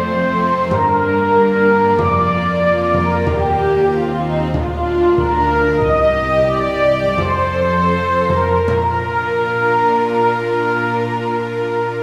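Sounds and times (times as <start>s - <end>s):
sustained instrumental chords: 0.0s - 12.0s.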